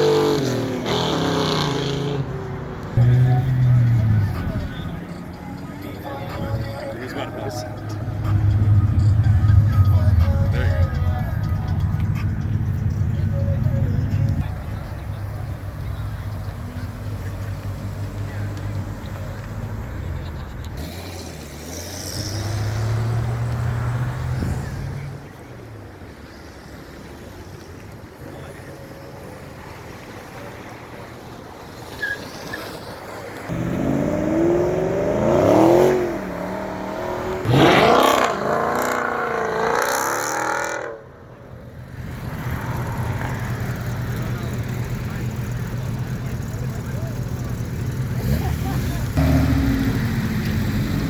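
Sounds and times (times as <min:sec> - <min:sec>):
car engine revving: 0:00.0 - 0:05.7, 0:06.3 - 0:25.4, 0:33.4 - 0:51.0.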